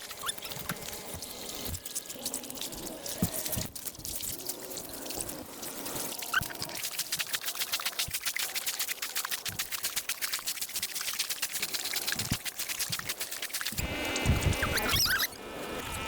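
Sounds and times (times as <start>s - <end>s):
small splashes and clicks: 0.0s - 15.3s
water pouring and splashing: 0.0s - 16.0s.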